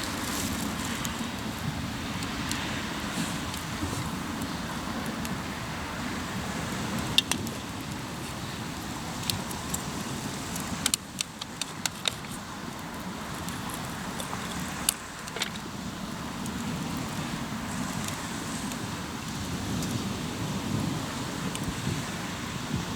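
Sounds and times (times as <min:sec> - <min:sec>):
campfire crackling: 0:00.0 - 0:22.9
steady rushing noise: 0:00.0 - 0:22.9.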